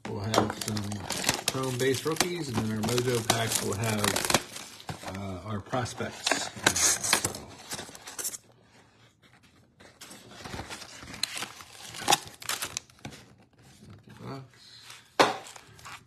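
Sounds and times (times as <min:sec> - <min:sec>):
foil packs rustling and crinkling: 0:00.1 - 0:08.5, 0:09.9 - 0:14.4, 0:15.0 - 0:16.0.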